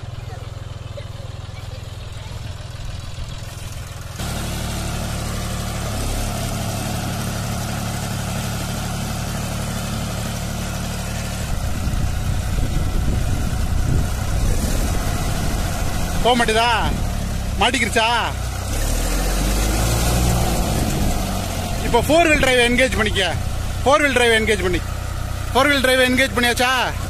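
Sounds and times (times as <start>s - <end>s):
tractor diesel engine straining: 0.0s - 27.0s.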